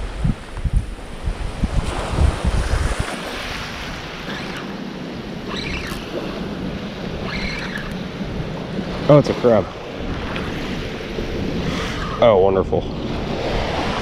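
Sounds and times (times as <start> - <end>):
shoreline water: 0.0 - 14.0
wind buffeting microphone: 0.0 - 14.0.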